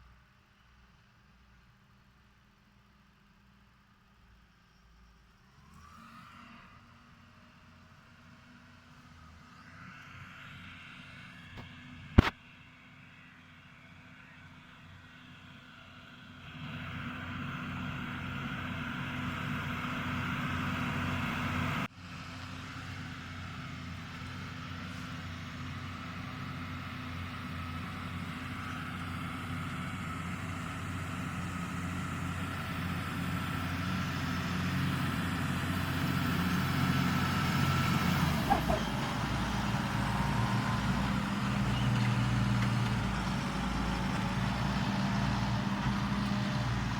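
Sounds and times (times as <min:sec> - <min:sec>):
tractor diesel engine under load: 0:05.4 - 0:46.9.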